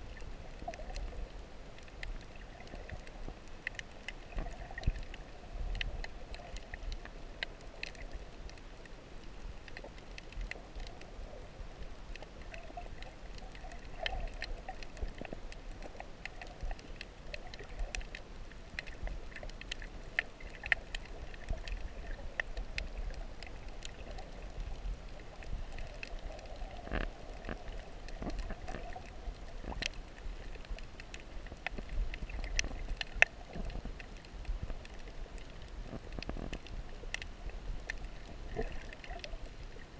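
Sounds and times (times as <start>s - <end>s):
underwater low rumble: 0.0s - 39.9s
short clicks and crackles: 0.1s - 11.2s, 11.8s - 39.9s.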